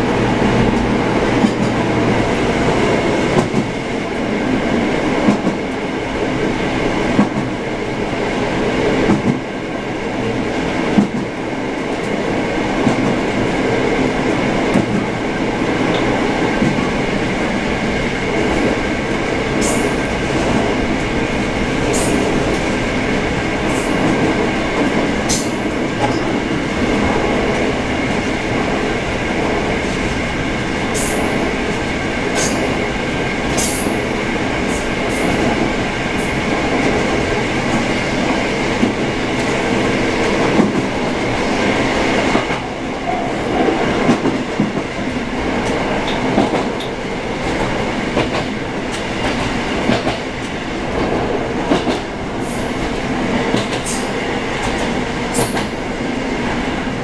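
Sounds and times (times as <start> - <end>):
train engine and wheel rumble: 0.0 - 57.0.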